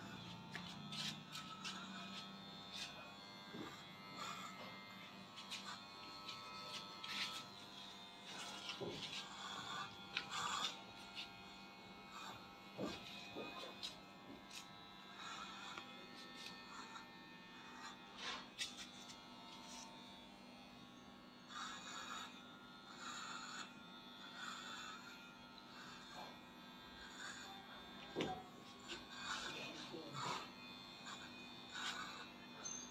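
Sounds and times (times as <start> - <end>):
electric hair clippers humming: 0.0 - 32.9.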